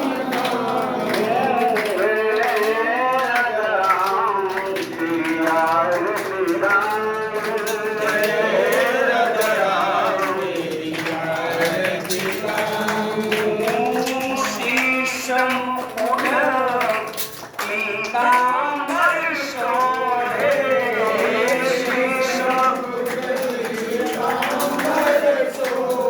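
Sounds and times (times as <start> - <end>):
man singing devotional hymn: 0.0 - 26.0.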